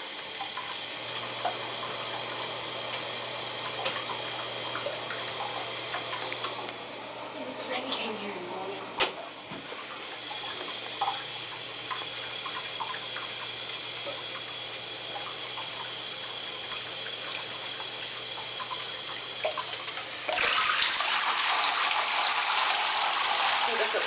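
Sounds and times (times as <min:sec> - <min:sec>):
water running into bathtub: 0:00.0 - 0:24.0.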